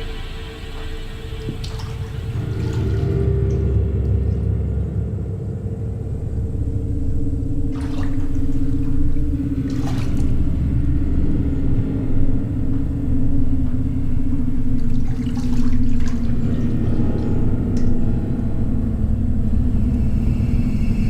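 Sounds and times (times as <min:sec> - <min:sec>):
low rumbling drone with hum: 0:00.0 - 0:21.0.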